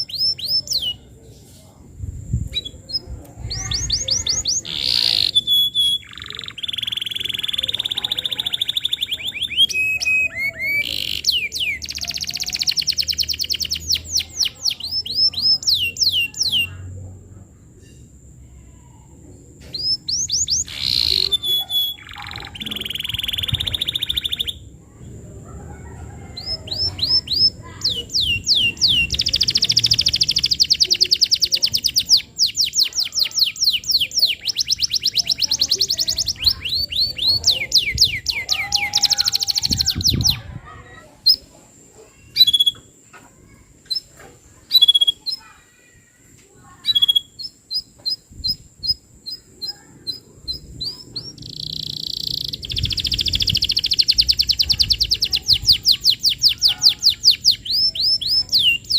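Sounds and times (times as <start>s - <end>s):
canary singing in trills: 0.0s - 58.9s.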